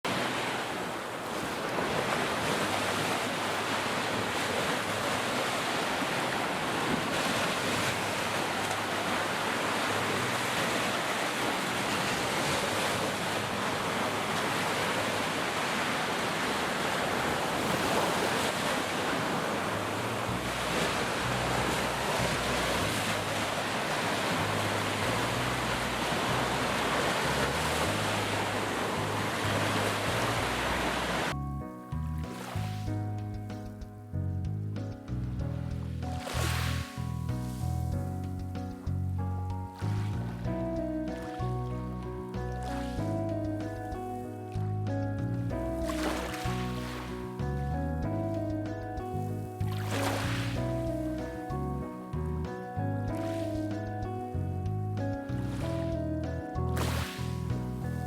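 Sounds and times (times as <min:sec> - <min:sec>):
ocean waves breaking: 0:00.0 - 0:31.4, 0:32.2 - 0:33.8, 0:36.0 - 0:58.0
wind buffeting microphone: 0:00.0 - 0:58.0.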